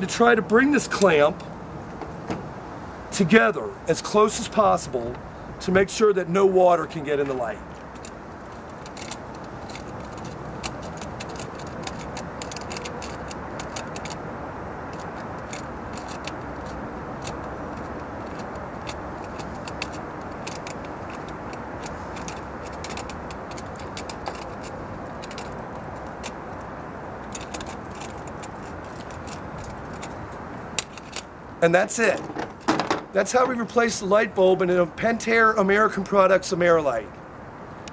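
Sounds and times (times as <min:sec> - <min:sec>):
outdoor background noise: 0:00.0 - 0:37.9.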